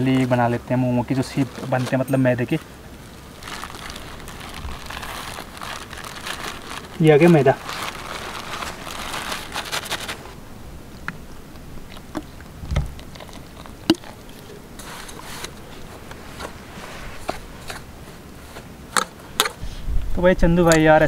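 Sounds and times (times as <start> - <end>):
plastic bag rustling: 0.0 - 10.5, 12.0 - 19.6.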